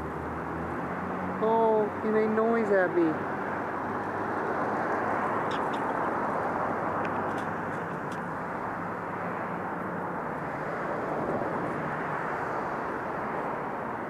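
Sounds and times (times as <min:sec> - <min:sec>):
outdoor background rush: 0:00.0 - 0:14.0.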